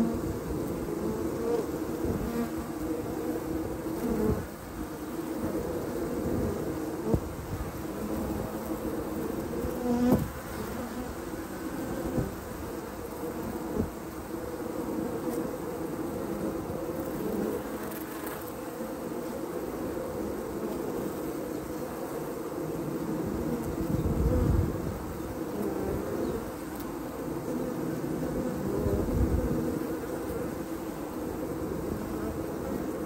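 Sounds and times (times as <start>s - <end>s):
honey bees buzzing: 0.0s - 33.0s.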